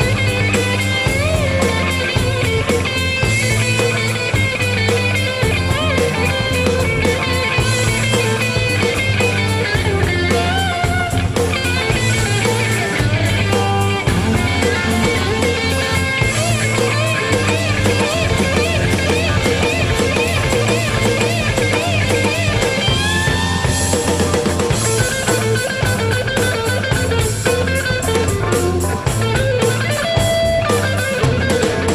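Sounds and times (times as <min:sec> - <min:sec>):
bass and drums: 0:00.0 - 0:31.9
electric guitar lead: 0:00.0 - 0:31.9.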